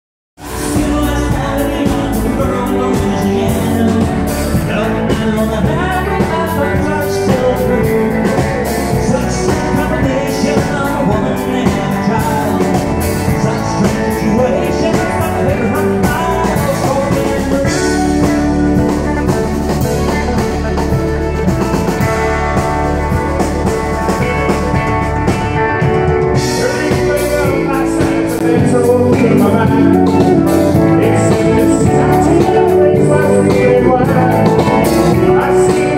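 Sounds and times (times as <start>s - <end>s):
live country band playing: 0.4s - 35.9s
man singing lead: 0.4s - 35.9s.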